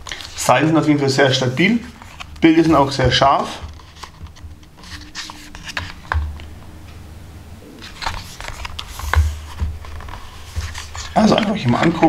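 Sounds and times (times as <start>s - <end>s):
book pages turning: 0.0s - 6.6s, 7.8s - 12.0s.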